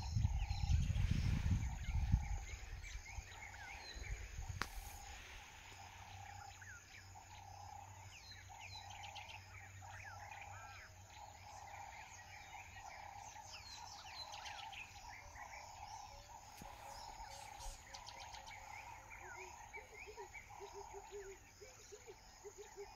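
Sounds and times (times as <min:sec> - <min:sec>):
pulsing insect drone: 0:00.0 - 0:22.9
small birds chirping: 0:00.0 - 0:22.9.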